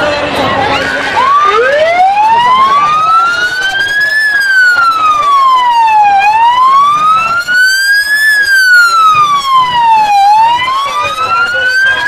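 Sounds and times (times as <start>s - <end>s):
crowd noise: 0.0s - 12.0s
vehicle siren wailing: 0.1s - 12.0s.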